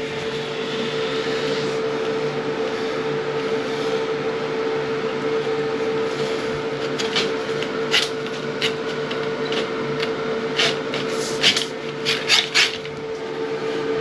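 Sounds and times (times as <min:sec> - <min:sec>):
drain snake motor hum: 0:00.0 - 0:14.0.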